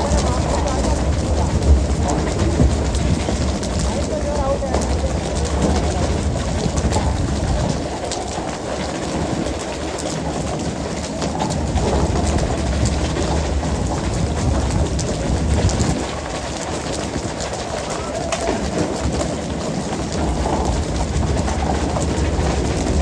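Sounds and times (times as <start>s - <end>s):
water splashing along hull: 0.0s - 23.0s.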